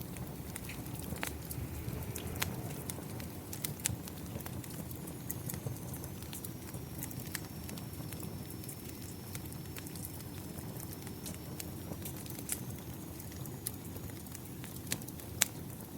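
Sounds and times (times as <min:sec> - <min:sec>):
steady rain: 0:00.0 - 0:15.9
wood fire crackling and popping: 0:00.0 - 0:15.9.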